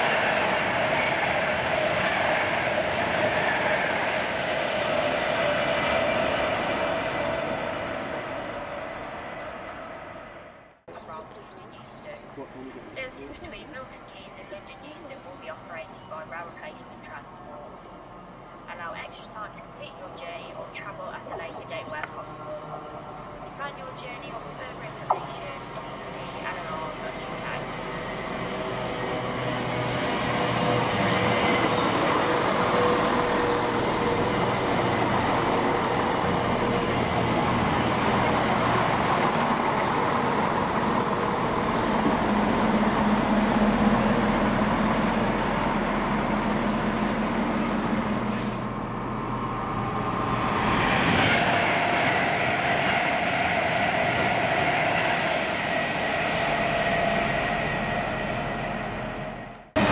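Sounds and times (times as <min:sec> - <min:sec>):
train wheels rumbling on rail: 0:00.0 - 0:13.8, 0:17.4 - 0:59.9.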